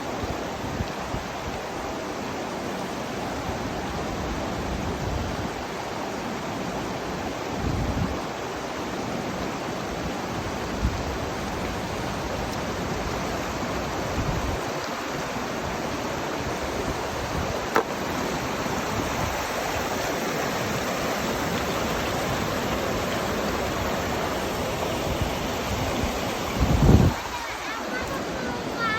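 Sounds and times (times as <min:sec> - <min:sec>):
running water rushing: 0:00.0 - 0:28.9.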